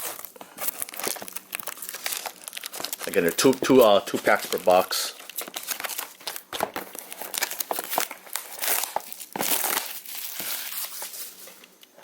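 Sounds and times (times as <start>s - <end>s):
box rustling: 0.0s - 11.6s
plastic wrap crinkling: 0.0s - 12.0s.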